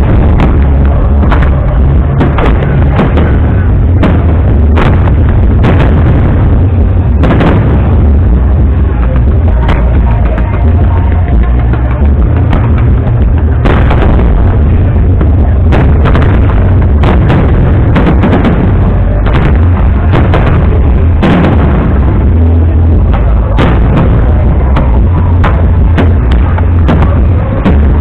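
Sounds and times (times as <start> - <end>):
fireworks bursting: 0.0 - 28.0
heavy low rumble: 0.0 - 28.0.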